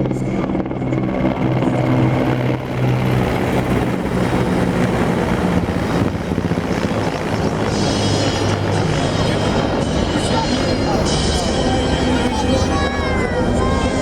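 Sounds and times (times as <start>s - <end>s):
helicopter engine drone: 0.0s - 14.0s
helicopter rotor chop: 0.0s - 14.0s.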